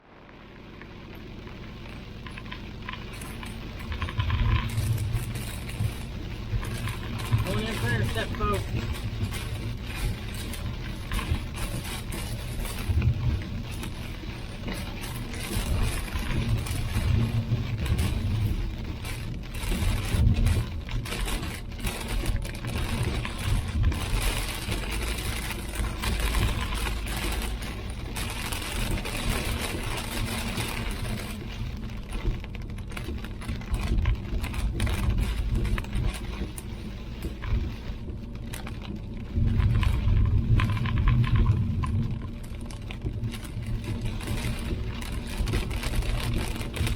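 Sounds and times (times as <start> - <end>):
rapid irregular ticks and clicks: 0.0 - 46.9
road and engine rumble: 0.0 - 46.9.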